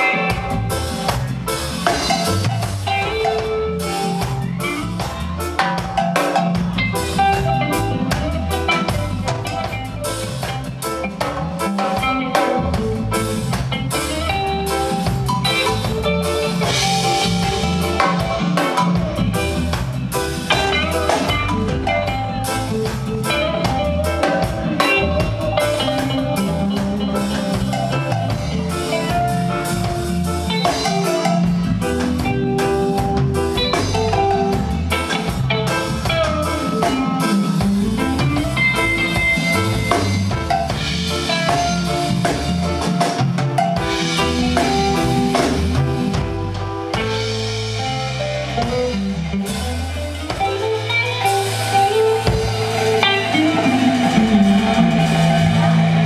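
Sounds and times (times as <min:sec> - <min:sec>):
bass guitar: 0:00.0 - 0:56.0
drum kit: 0:00.0 - 0:56.0
electric guitar: 0:00.0 - 0:56.0
keyboards: 0:00.0 - 0:56.0.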